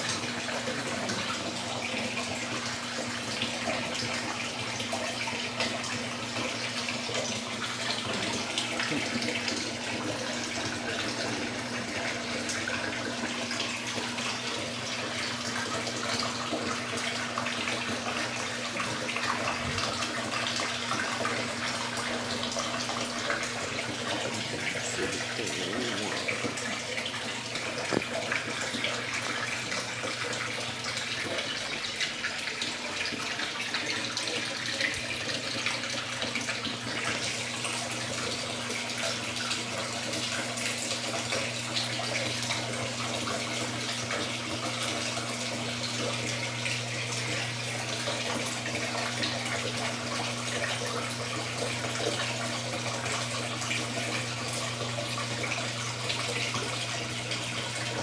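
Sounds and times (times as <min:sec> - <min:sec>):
water splashing in washing machine: 0:00.0 - 0:58.0.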